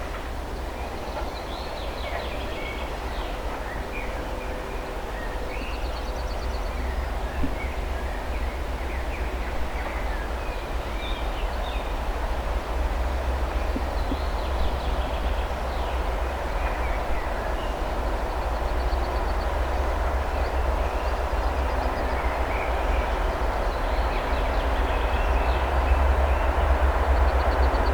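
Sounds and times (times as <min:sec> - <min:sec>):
diesel locomotive engine rumble: 0:00.0 - 0:27.9.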